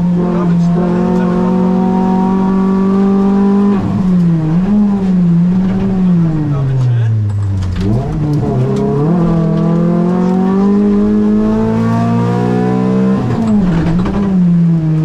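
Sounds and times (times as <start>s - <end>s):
car engine revving under throttle: 0.0s - 15.0s
gear change: 0.0s - 15.0s.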